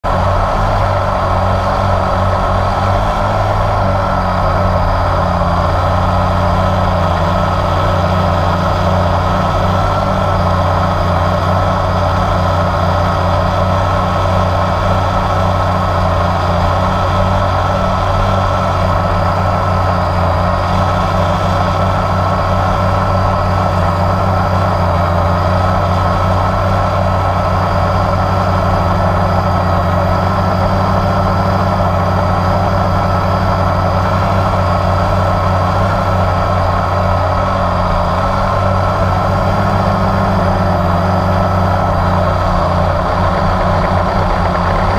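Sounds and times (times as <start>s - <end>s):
quadcopter motors buzzing: 0.1s - 44.9s.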